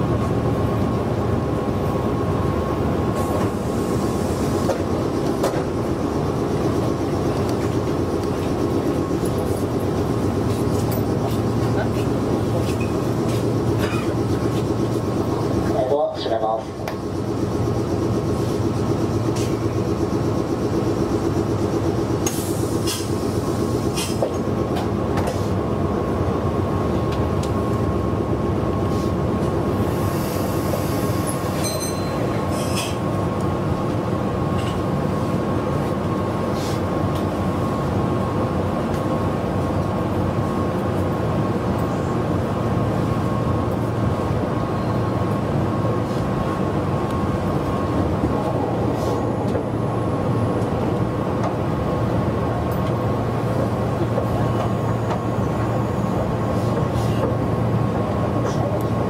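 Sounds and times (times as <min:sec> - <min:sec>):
constant train hum: 0:00.0 - 0:59.0
train wheels rumbling on rail: 0:00.0 - 0:59.0.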